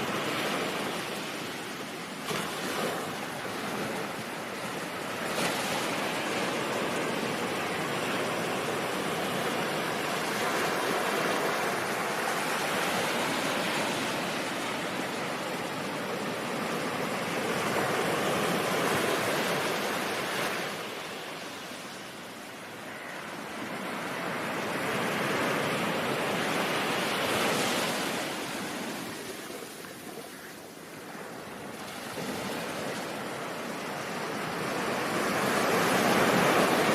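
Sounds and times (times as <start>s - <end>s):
ocean waves washing: 0.0s - 36.9s.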